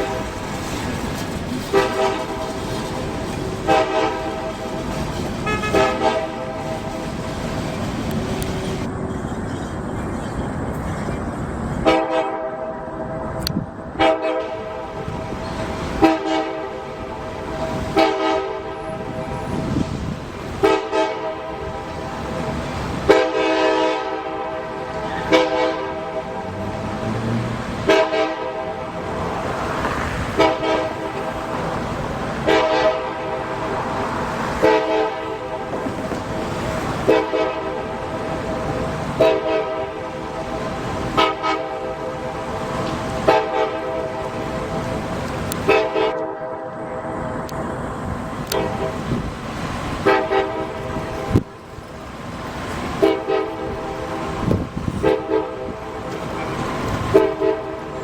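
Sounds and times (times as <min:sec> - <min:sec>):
locomotive air horn blasts: 0:00.0 - 0:00.9, 0:01.6 - 0:08.9, 0:11.8 - 0:47.6, 0:48.4 - 0:51.6, 0:52.6 - 0:58.0
passing train rumble: 0:00.0 - 0:58.0.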